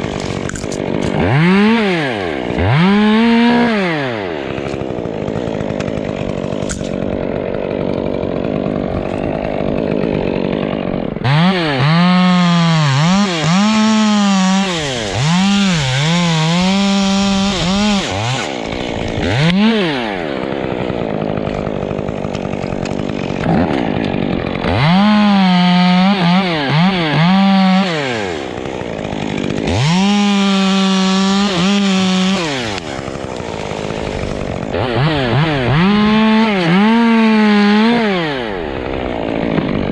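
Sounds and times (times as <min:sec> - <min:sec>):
two-stroke chainsaw revving: 0:00.0 - 0:39.9.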